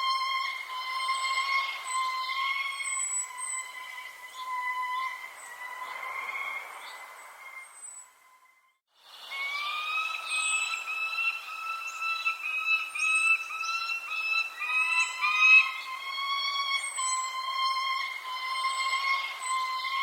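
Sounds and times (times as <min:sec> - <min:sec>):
birds whistle-like calls: 0:00.0 - 0:08.5, 0:09.1 - 0:20.0
high falling bird chirps: 0:00.0 - 0:20.0.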